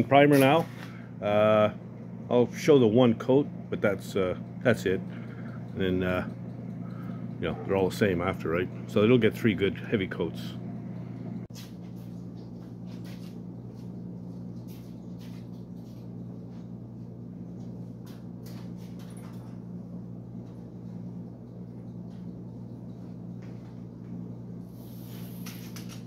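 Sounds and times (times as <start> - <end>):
low hum: 0.7 - 26.0.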